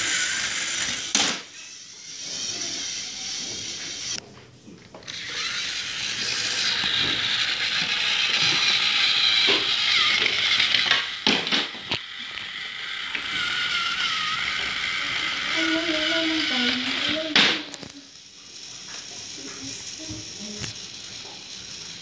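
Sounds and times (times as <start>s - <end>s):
toy train motor whirring: 0.0s - 4.2s, 5.0s - 22.0s.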